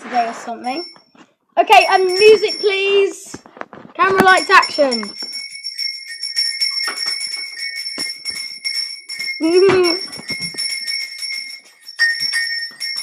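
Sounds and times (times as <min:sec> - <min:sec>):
small bells jingling: 0:00.2 - 0:13.0.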